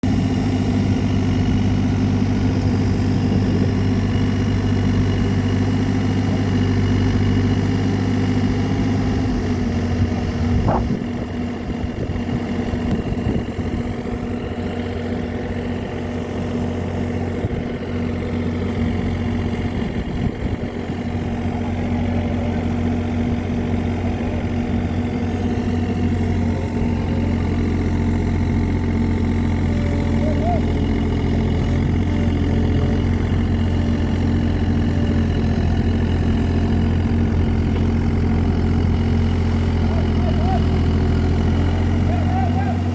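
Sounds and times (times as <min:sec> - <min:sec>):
excavator engine running: 0:00.0 - 0:42.9.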